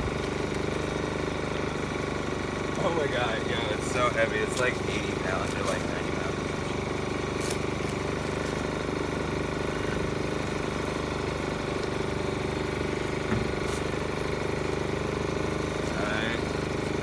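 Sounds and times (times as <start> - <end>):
generator running: 0.0 - 17.0.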